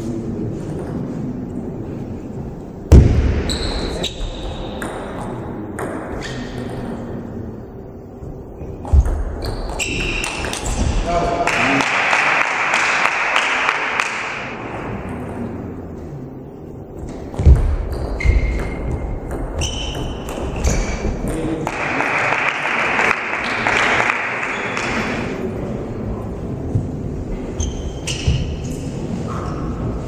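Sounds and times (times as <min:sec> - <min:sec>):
crowd noise: 0:00.0 - 0:30.0.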